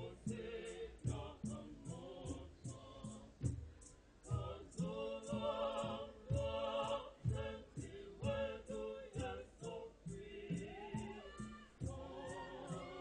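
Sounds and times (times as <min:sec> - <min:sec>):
choir singing a hymn in harmony: 0:00.0 - 0:03.6, 0:04.2 - 0:13.0
high ticking beat: 0:00.0 - 0:13.0.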